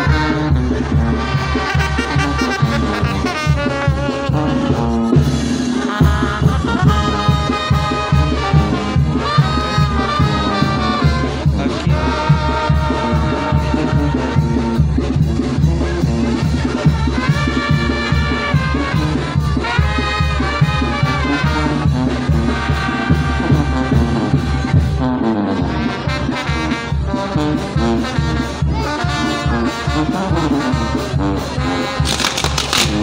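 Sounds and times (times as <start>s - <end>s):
low drum beat: 0.0s - 33.0s
trumpets and trombones: 0.0s - 33.0s.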